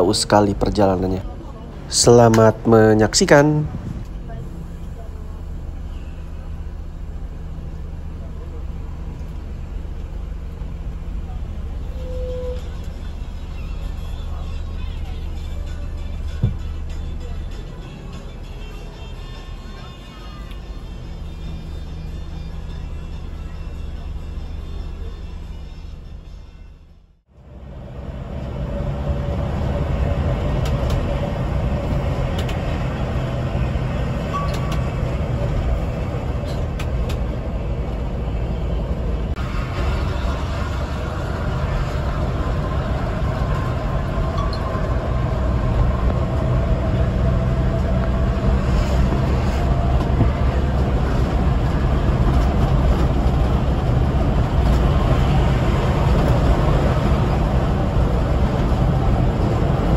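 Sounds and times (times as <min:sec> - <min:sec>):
coach engine drone: 0:00.0 - 0:59.9
road rumble: 0:00.0 - 0:59.9.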